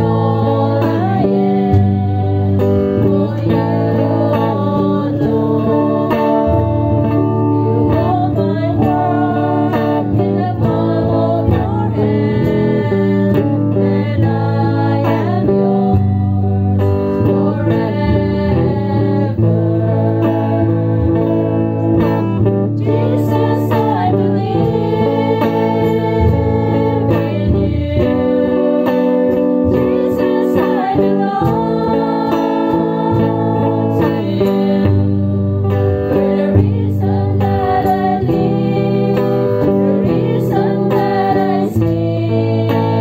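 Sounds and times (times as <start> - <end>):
strummed guitars: 0.0 - 43.0
women singing worship song: 0.0 - 43.0.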